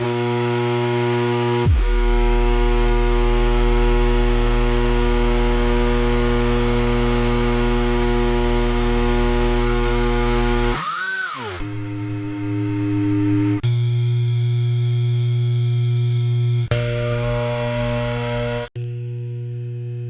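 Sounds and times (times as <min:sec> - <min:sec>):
incubator electrical drone: 0:01.2 - 0:10.8, 0:11.6 - 0:20.0.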